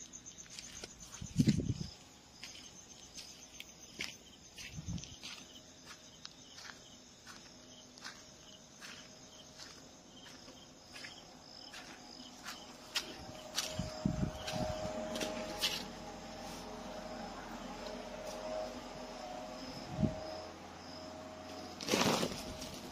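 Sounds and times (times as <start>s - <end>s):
crickets chirping: 0.0s - 22.9s.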